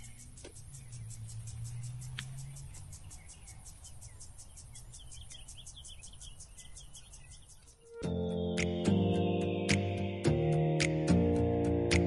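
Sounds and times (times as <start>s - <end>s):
insects chirping: 0.0s - 10.6s.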